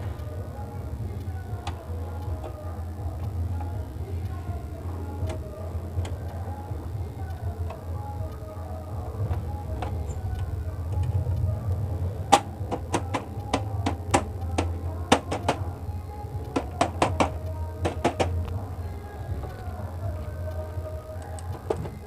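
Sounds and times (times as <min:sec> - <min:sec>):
background music: 0:00.0 - 0:22.0
steady low hum: 0:00.0 - 0:22.0.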